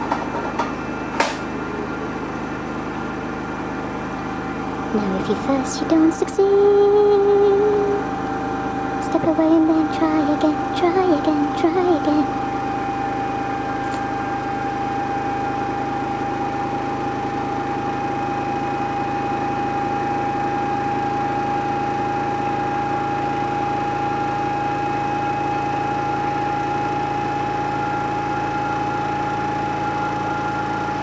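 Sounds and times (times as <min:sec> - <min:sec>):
washing machine high whine: 0:00.0 - 0:31.0
washing machine motor hum: 0:00.0 - 0:31.0.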